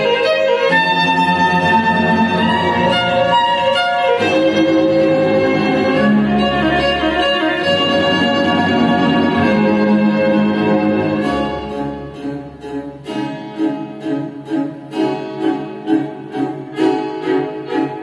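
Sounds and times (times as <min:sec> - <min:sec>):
string music over loudspeakers: 0:00.0 - 0:18.0.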